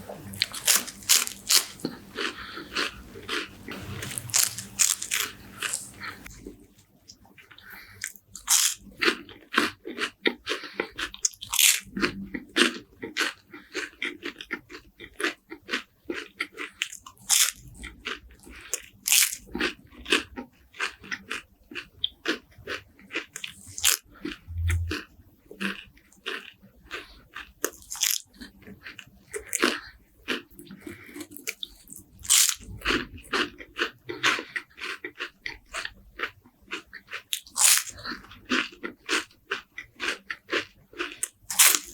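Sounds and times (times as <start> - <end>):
crispy wafers crunching when chewed: 0.2 - 41.9.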